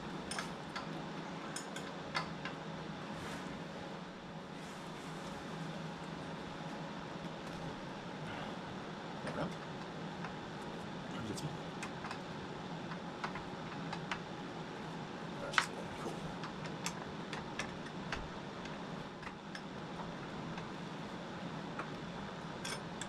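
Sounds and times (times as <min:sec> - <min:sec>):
space heaters humming: 0:00.0 - 0:23.0.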